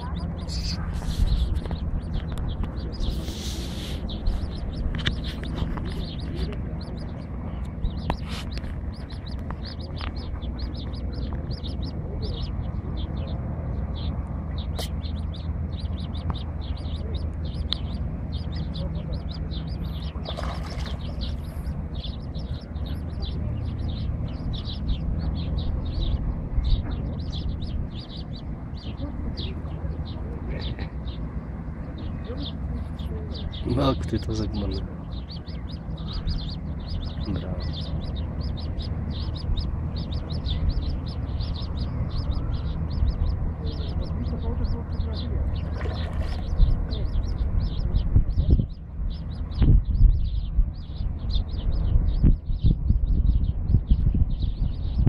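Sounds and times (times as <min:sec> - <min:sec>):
chick peeping: 0:00.0 - 0:55.0
steady low rumble: 0:00.0 - 0:55.0.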